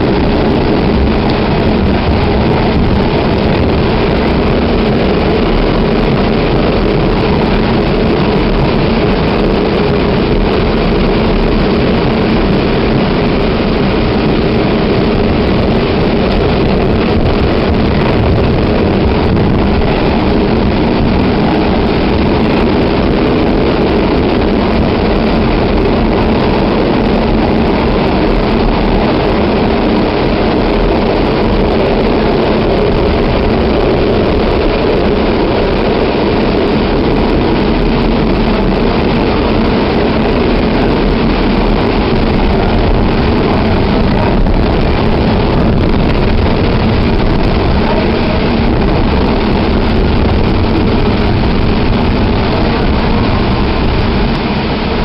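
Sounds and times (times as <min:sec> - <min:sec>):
train rumbling at speed: 0:00.0 - 0:55.0.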